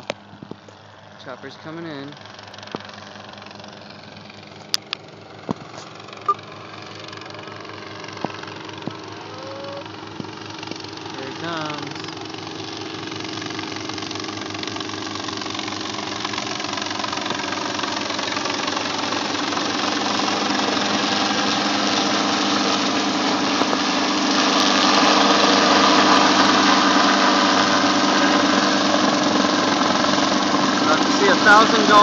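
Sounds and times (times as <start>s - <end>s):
helicopter flying overhead: 0.0s - 32.0s.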